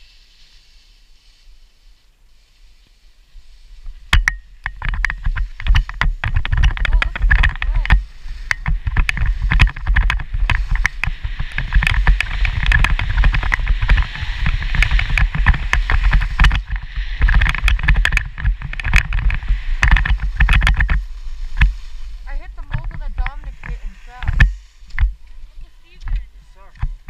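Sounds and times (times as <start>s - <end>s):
skis scraping over snow: 0.0s - 27.0s
wind buffeting microphone: 3.8s - 27.0s.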